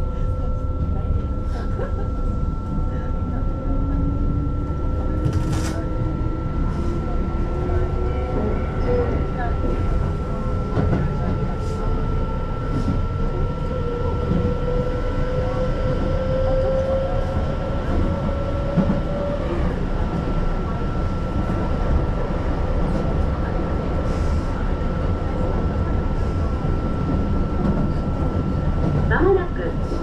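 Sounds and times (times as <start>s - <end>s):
train wheels rumbling on rail: 0.5s - 30.0s.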